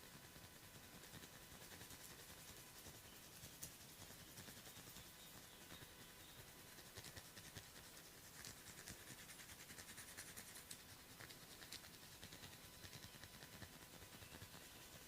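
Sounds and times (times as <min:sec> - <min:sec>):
fingers scratching through hair: 0:00.0 - 0:15.0.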